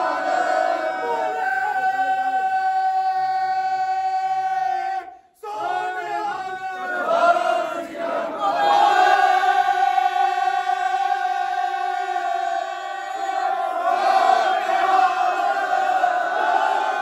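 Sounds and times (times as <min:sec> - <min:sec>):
congregation chanting in unison: 0:00.0 - 0:17.0.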